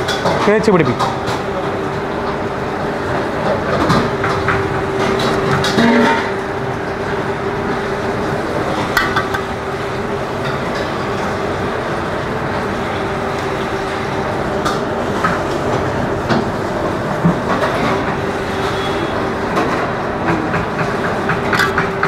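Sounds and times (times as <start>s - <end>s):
kitchen equipment humming: 0.0s - 22.0s.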